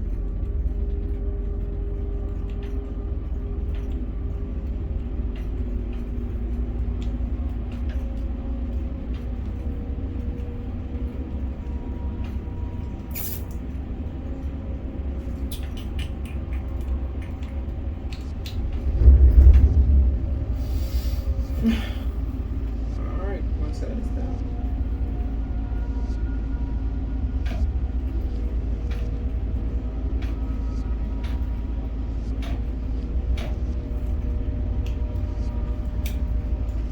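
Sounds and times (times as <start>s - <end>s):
crane machinery rumble: 0.0s - 36.9s
faint hum tones: 0.0s - 36.9s.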